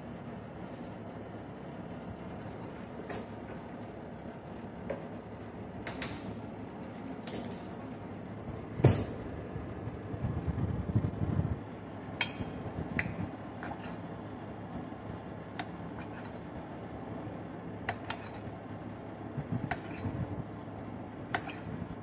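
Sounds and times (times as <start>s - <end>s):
oven humming: 0.0s - 22.0s.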